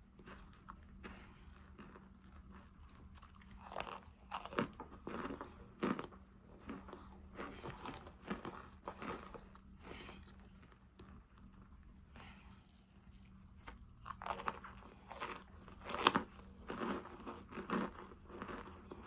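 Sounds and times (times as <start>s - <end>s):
chewing crisp crunches: 0.1s - 19.0s.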